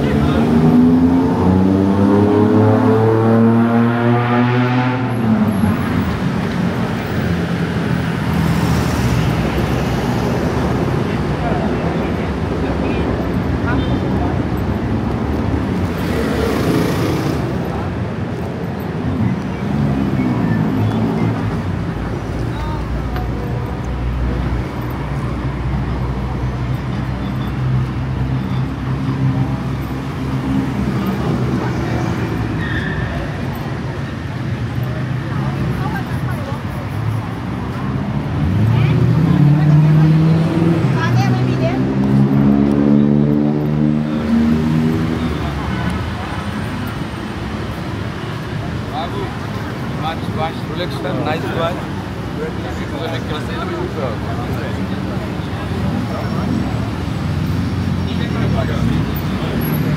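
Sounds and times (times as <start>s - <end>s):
traffic noise: 0.0s - 59.9s.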